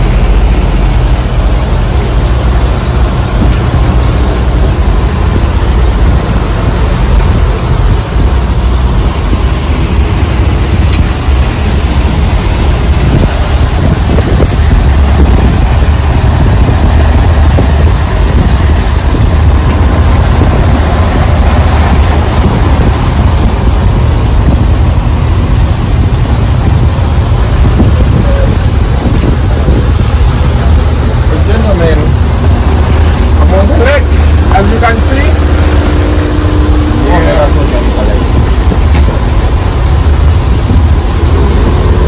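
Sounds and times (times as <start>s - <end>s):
boat engine rumbling: 0.0s - 42.0s
constant hiss: 0.0s - 42.0s.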